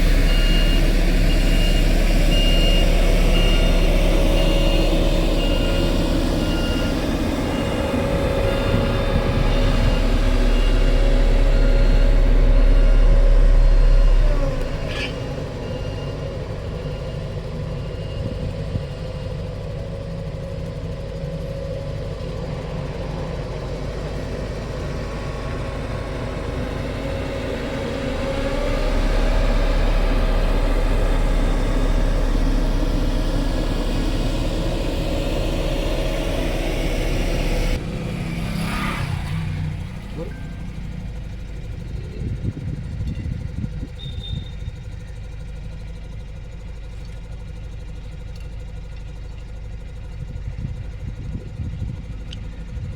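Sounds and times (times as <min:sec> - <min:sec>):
heavy machinery engines rumbling: 0:00.0 - 0:52.9.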